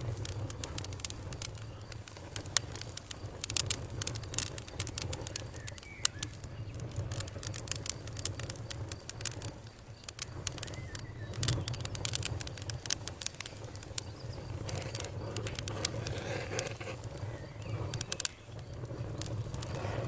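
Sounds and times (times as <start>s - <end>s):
campfire crackling: 0.0s - 20.0s
fire pops and snaps: 0.0s - 20.0s.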